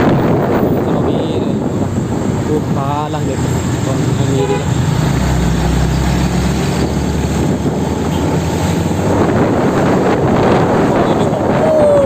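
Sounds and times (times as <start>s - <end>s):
road and tyre noise: 0.0s - 12.0s
truck diesel engine droning: 1.6s - 12.0s.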